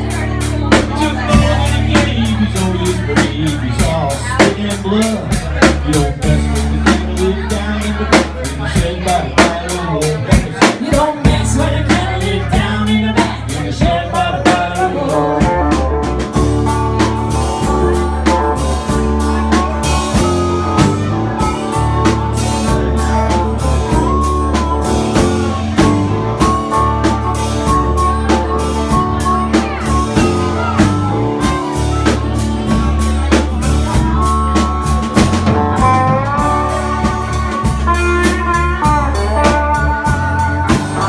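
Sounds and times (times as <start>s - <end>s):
acoustic guitar: 0.0s - 41.0s
blues band playing: 0.0s - 41.0s
drum kit steady beat: 0.0s - 41.0s
electric guitar: 0.0s - 41.0s.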